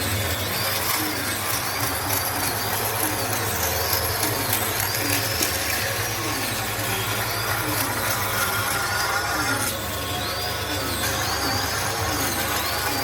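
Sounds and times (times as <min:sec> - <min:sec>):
power tool cutting wood: 0:00.0 - 0:13.0.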